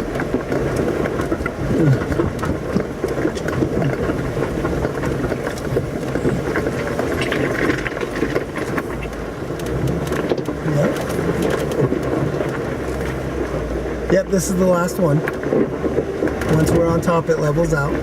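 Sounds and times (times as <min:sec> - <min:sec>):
rattling and knocks from vehicle: 0:00.0 - 0:18.0
vehicle engine at low speed: 0:00.0 - 0:18.0.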